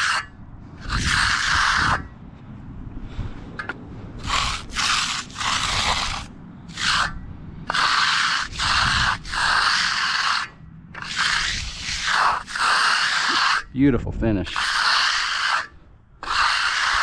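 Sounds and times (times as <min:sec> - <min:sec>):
trowel scraping concrete: 0:00.0 - 0:02.1, 0:03.6 - 0:17.0.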